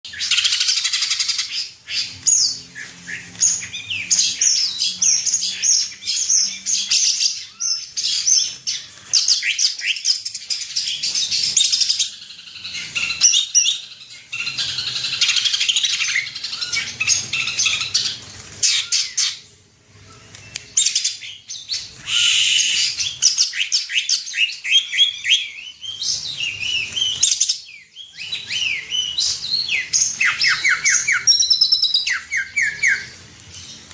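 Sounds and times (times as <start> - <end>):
bird singing chirps and trills: 0.1 - 33.9.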